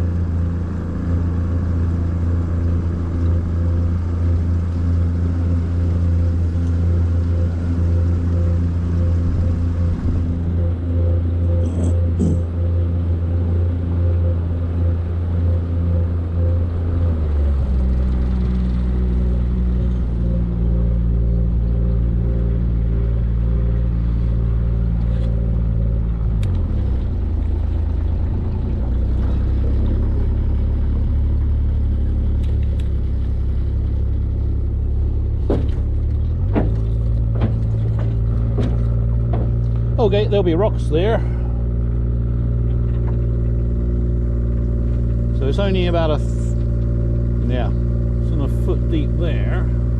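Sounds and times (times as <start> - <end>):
boat motor running: 0.0 - 49.9.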